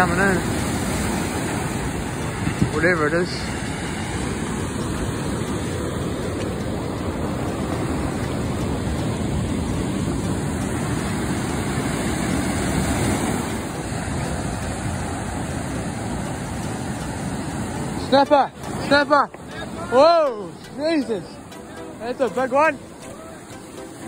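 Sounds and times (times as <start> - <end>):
surf breaking on beach: 0.0 - 24.0.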